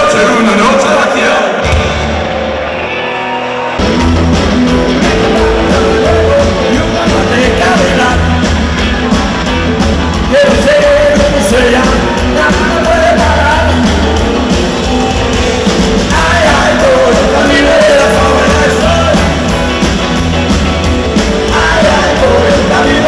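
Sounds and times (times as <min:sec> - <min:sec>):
live rock band with singer: 0:00.0 - 0:23.0
heavy bass beat: 0:03.8 - 0:23.0.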